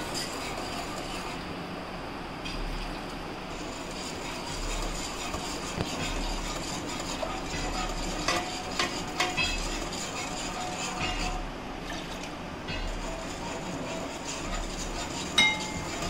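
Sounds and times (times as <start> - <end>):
whisk stirring milk in a pan: 0.0 - 1.7, 3.4 - 16.0.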